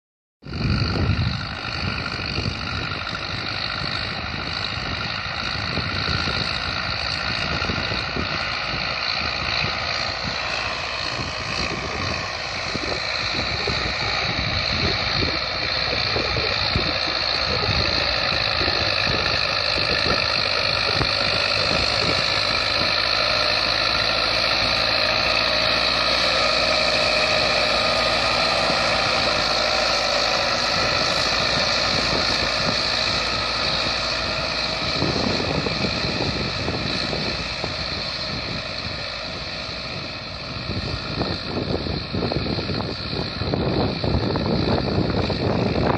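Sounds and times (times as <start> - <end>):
tractor diesel engine running: 0.4 - 45.9.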